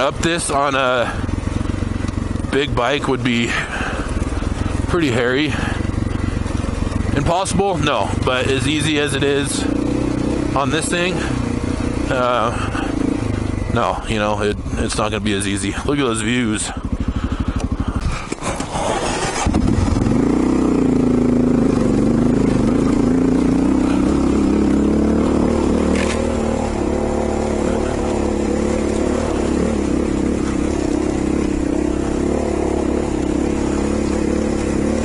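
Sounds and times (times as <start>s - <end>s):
motorcycle engine under load: 0.0s - 35.0s.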